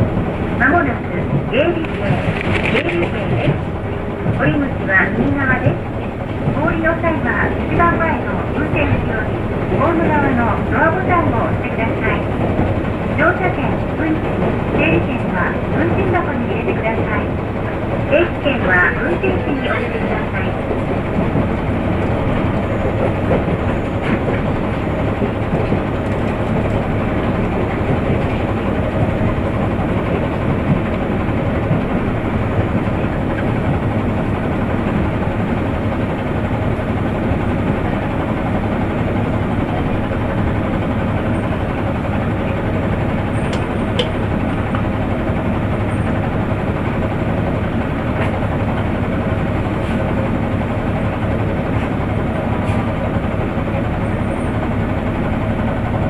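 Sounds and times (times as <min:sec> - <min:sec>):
diesel railcar engine hum: 0:00.0 - 0:56.0
train wheels on rails: 0:00.0 - 0:56.0.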